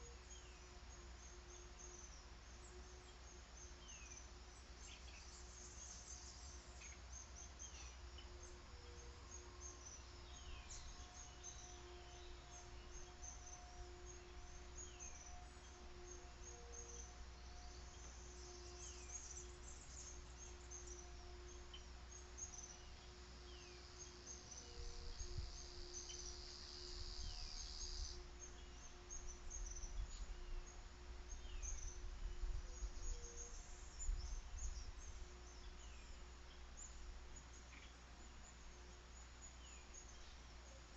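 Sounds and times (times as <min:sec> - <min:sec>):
high insect buzz: 0:00.0 - 0:40.4
faint steady hum: 0:00.0 - 0:40.9
insects: 0:00.0 - 0:40.9.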